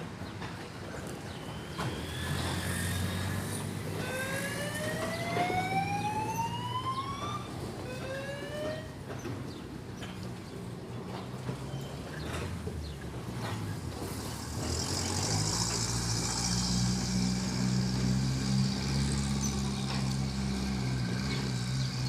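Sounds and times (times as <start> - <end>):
diesel engines rumbling: 0.0 - 22.0.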